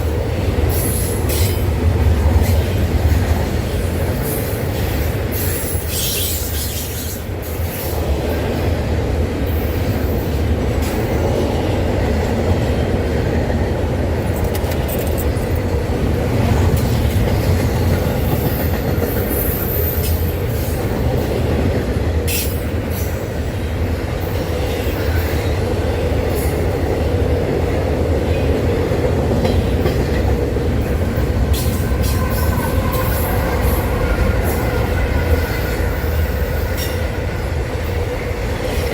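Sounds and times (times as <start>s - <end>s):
rail joint clacks: 0.0s - 38.9s
train wheels rumbling on rail: 0.0s - 38.9s.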